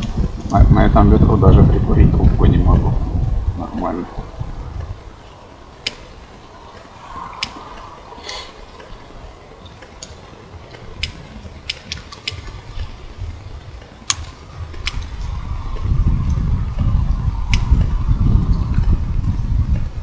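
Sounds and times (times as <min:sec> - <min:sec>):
campfire wood popping: 0:00.0 - 0:18.8
wind rumble on microphone: 0:00.0 - 0:20.0.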